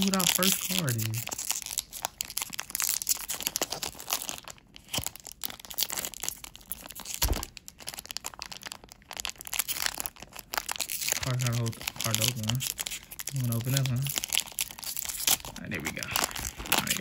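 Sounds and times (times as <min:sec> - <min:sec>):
wrapper crinkling as torn open: 0:00.0 - 0:17.0.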